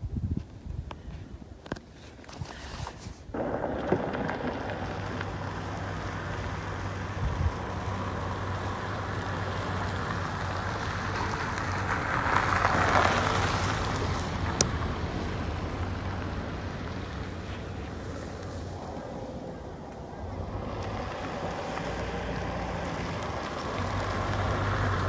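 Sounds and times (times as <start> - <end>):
tyres on loose gravel: 0.3 - 25.0
car engine: 3.3 - 25.0.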